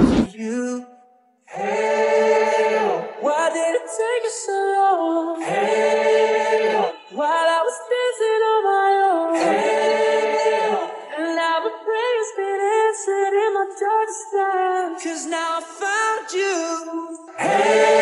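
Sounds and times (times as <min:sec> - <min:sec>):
unaccompanied group singing: 0:01.5 - 0:15.2, 0:17.3 - 0:18.0.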